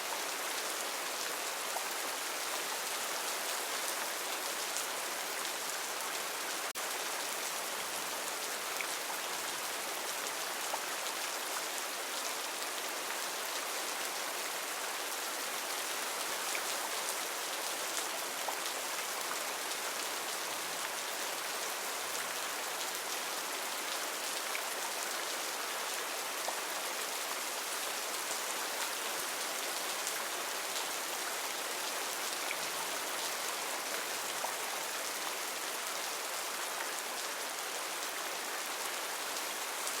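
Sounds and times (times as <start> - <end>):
heavy rain on foliage: 0.0 - 40.0.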